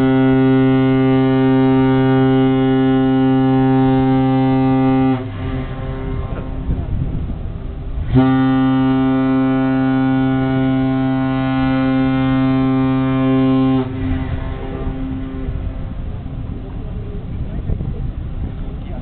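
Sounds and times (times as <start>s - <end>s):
ship horn blast: 0.0s - 18.6s.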